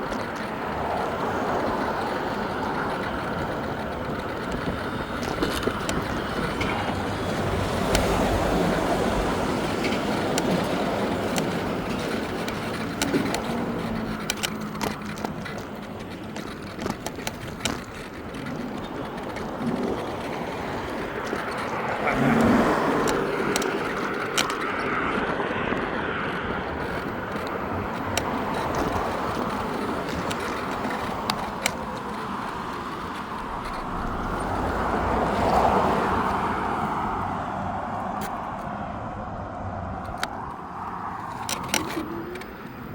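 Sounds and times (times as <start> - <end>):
cars passing: 0.0 - 42.9
road noise rumble: 0.0 - 42.9.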